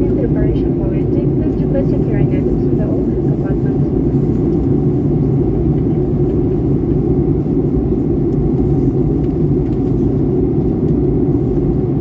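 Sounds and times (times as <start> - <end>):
airliner cabin jet engine rumble: 0.0 - 12.0.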